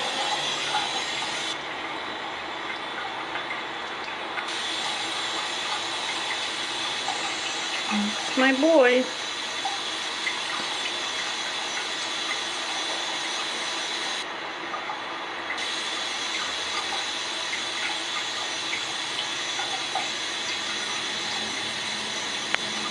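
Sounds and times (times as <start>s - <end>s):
water running from a faucet: 0.0s - 22.9s.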